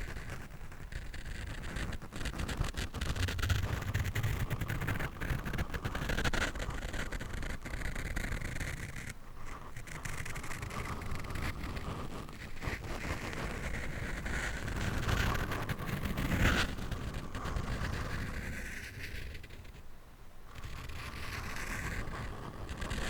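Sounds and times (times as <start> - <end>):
scratching on a microphone: 0.0 - 19.8, 20.5 - 23.0.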